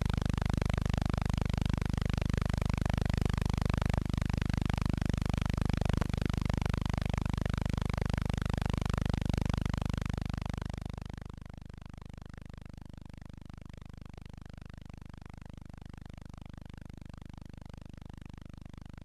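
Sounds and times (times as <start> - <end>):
low hum with hiss: 0.0 - 19.0.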